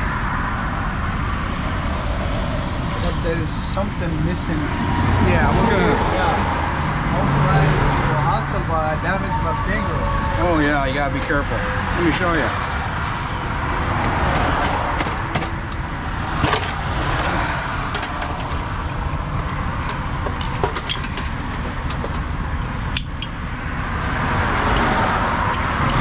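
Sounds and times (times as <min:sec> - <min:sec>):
highway traffic rushing: 0:00.0 - 0:26.0.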